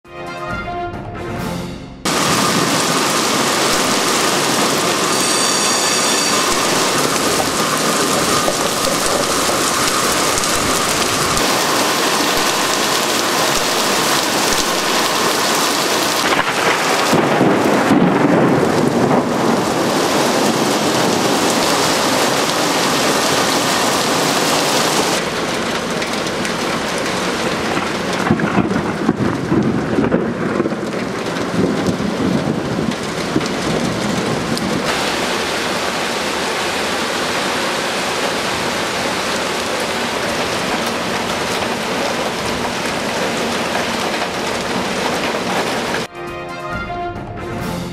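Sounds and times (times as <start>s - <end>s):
heavy rain pouring: 2.1s - 46.1s.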